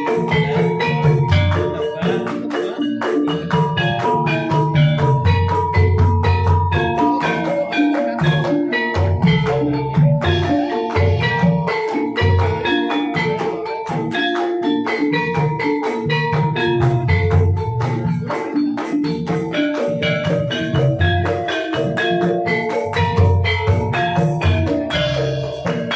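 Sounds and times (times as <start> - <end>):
metallophones struck fast: 0.0 - 25.9.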